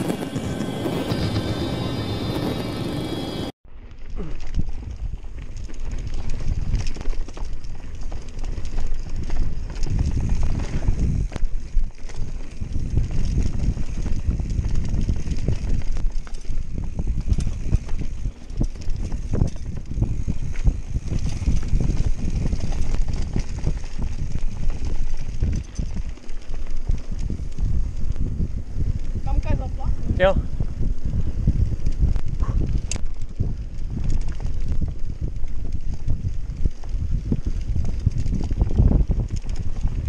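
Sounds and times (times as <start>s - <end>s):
bike tyres rumbling on dirt: 0.0s - 40.0s
wind on microphone: 0.0s - 40.0s
bike knocking and rattling: 3.7s - 40.0s.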